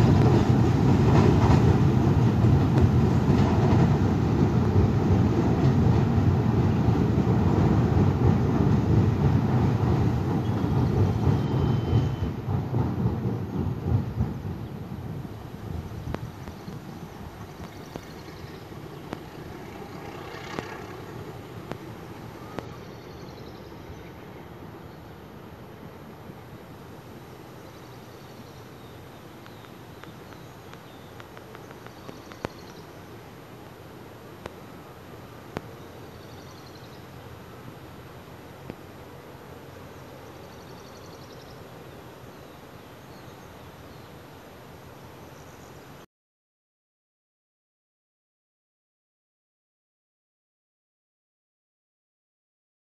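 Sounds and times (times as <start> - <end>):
diesel locomotive running: 0.0 - 45.4
distant train rumbling past: 0.0 - 46.0.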